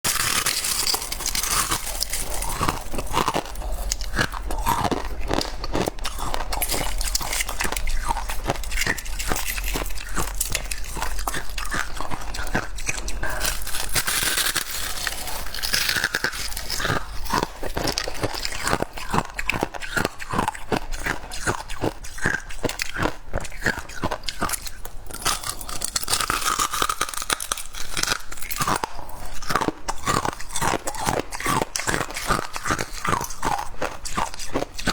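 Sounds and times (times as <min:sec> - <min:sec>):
chewing crunchy frost: 0:00.0 - 0:34.9.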